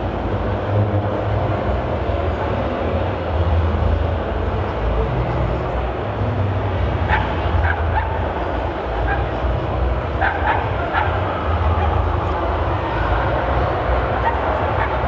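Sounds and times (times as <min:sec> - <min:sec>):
crowd chatter: 0:00.0 - 0:15.0.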